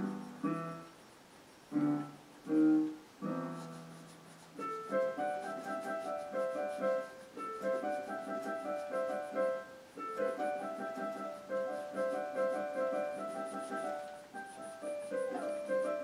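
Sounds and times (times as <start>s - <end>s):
gentle piano melody: 0.0s - 1.1s, 1.7s - 16.0s.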